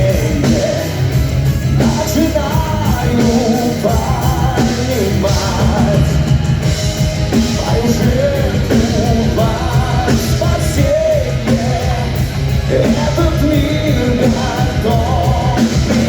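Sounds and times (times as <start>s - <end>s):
heavy metal band playing: 0.0s - 16.0s
person singing: 0.0s - 16.0s.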